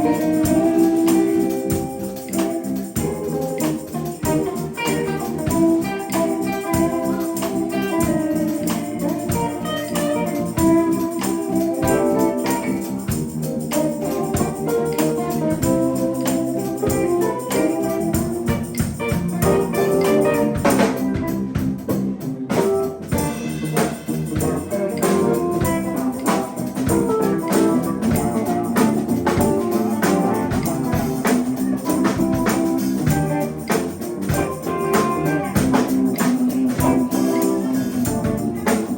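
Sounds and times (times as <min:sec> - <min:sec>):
live band playing instrumental: 0:00.0 - 0:38.9.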